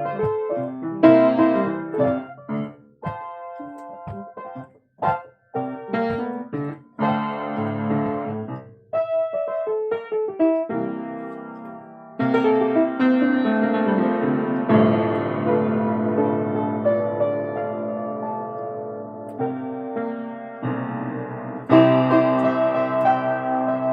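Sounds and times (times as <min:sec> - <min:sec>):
solo piano playing: 0:00.0 - 0:23.9.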